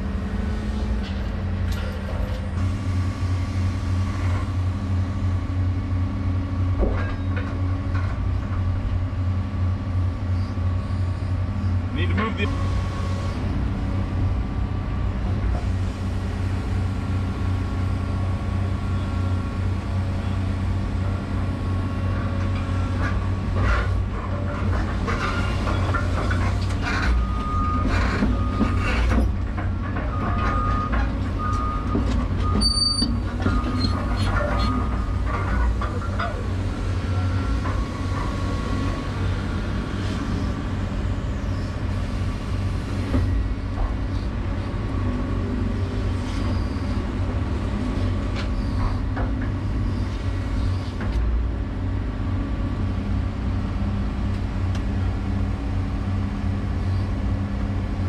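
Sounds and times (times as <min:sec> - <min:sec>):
excavator engine and hydraulics: 0:00.0 - 0:58.0.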